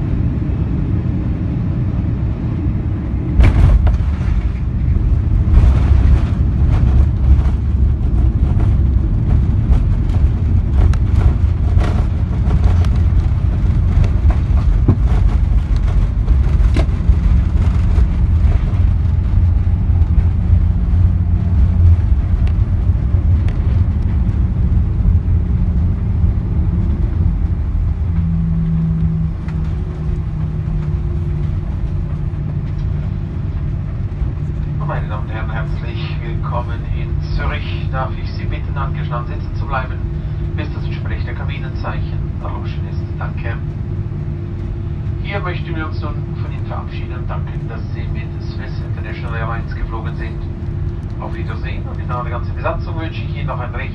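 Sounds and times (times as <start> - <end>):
steady low hum: 0.0 - 53.9
wheels rumbling on runway: 0.0 - 53.9.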